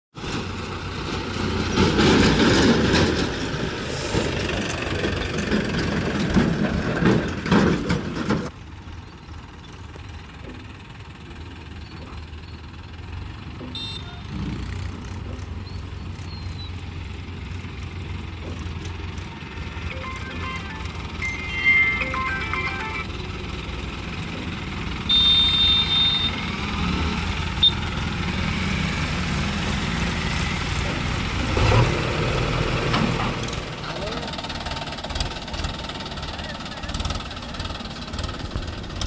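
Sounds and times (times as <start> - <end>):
tractor diesel engine running: 0.1 - 39.0.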